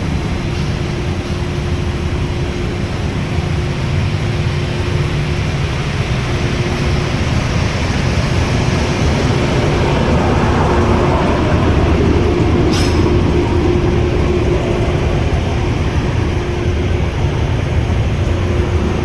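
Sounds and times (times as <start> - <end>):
constant hum: 0.0 - 19.0
rotary dryer rumbling: 1.7 - 19.0.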